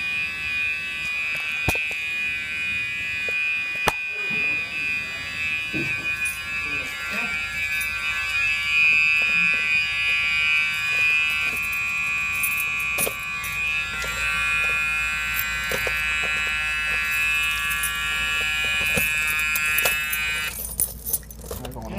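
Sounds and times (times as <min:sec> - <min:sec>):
door alarm electronic buzz: 0:00.0 - 0:21.2.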